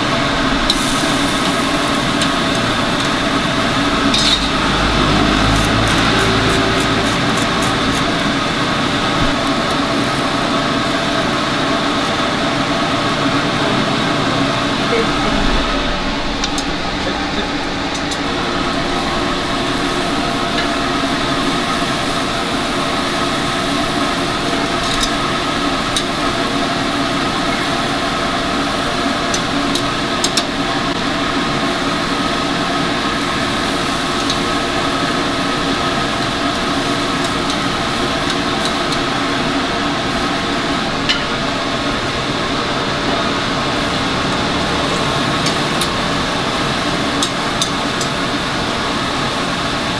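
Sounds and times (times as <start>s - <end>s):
steady mechanical hum: 0.0s - 49.9s.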